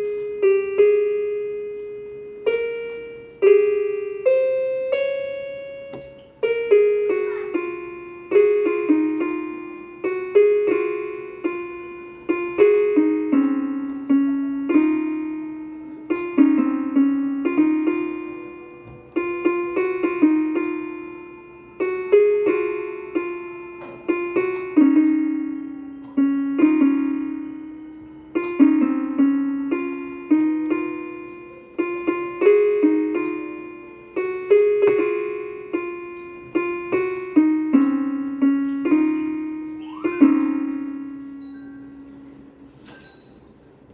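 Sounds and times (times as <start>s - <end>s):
electronic keyboard harp melody: 0.0s - 43.9s.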